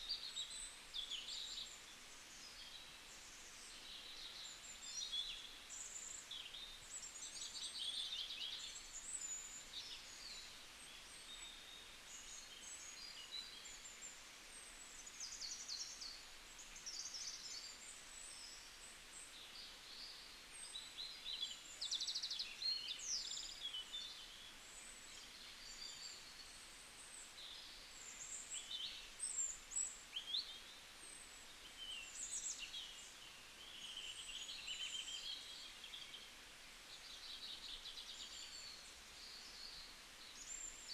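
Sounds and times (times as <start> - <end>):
faint background hiss: 0.0 - 40.9
songbirds chirping and trilling: 0.0 - 40.9.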